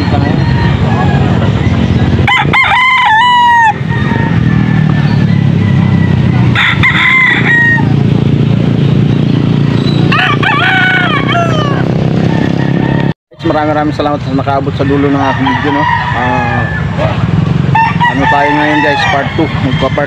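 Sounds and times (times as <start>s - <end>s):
roosters crowing: 0.0s - 8.5s, 9.5s - 20.0s.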